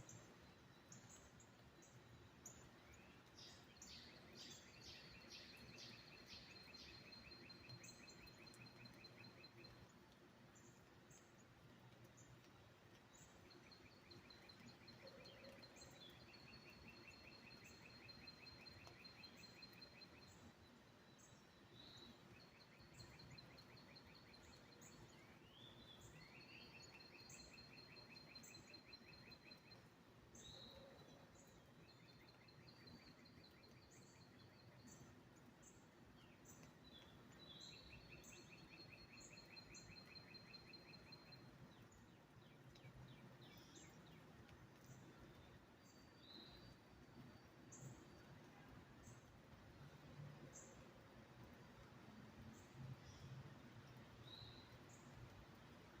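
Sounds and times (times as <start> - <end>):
low background hiss: 0.0 - 56.0.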